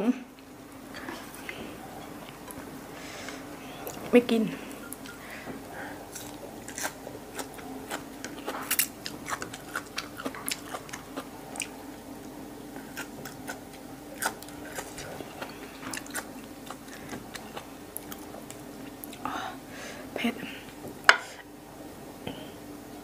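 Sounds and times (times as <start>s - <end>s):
person chewing crunchy stems: 0.4s - 19.3s.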